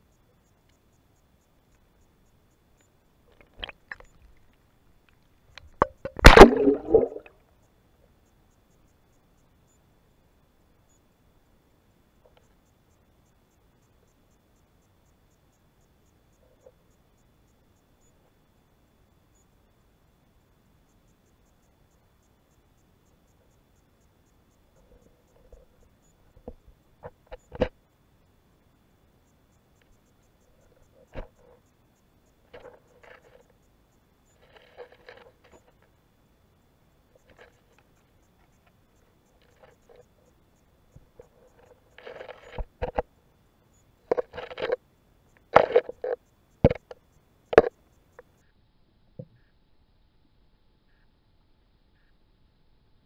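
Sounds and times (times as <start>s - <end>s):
faint steady hiss: 0.0s - 53.0s.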